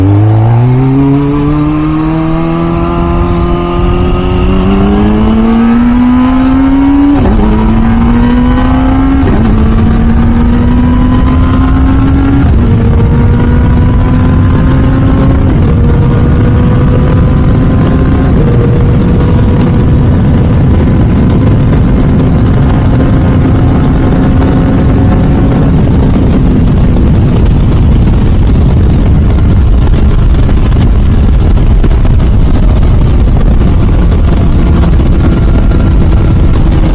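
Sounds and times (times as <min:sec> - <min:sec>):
motorcycle accelerating through gears: 0:00.0 - 0:36.9
wind and road noise: 0:00.0 - 0:36.9.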